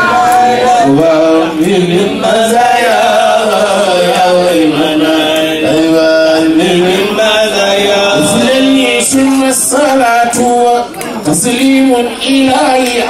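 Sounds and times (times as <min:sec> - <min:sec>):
men chanting: 0:00.0 - 0:13.0.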